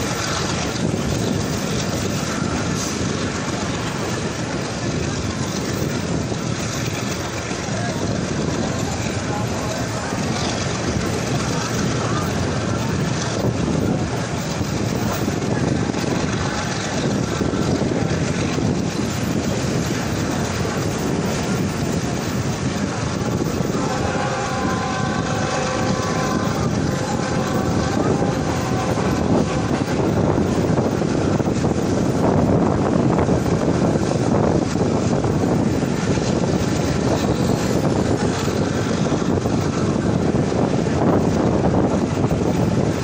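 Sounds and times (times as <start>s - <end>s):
moving train running noise: 0.0s - 43.0s.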